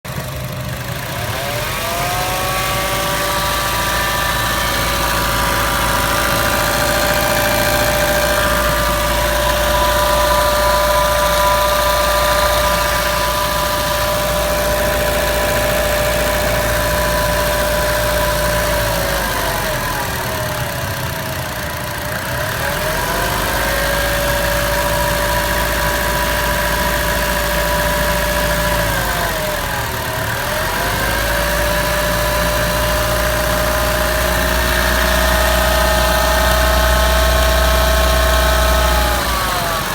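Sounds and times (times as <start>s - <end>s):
engine rattle: 0.0s - 39.9s
car engine running: 0.1s - 39.9s.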